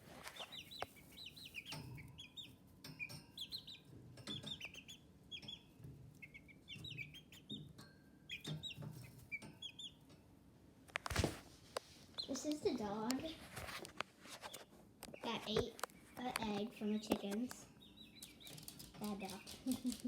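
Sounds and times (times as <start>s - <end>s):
chickens chirping: 0.0s - 10.4s, 11.2s - 13.3s, 14.2s - 20.0s.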